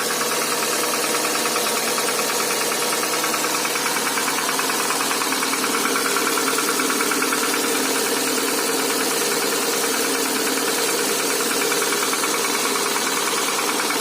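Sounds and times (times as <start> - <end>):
car engine running with knock: 0.0 - 14.0.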